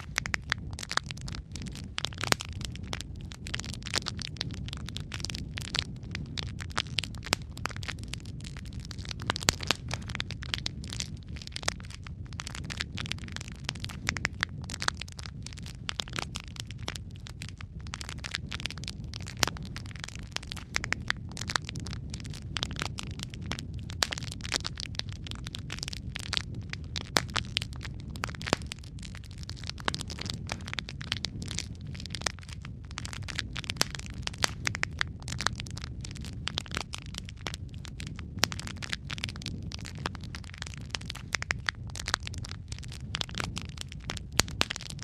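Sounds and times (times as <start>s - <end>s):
fire crackling and popping: 0.0s - 45.0s
low rumble of flames: 0.0s - 45.0s.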